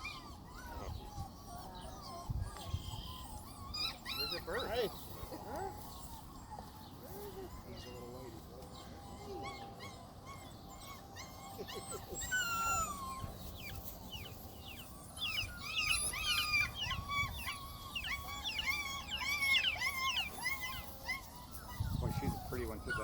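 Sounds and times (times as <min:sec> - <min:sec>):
puppies whining and yelping: 0:00.0 - 0:23.0.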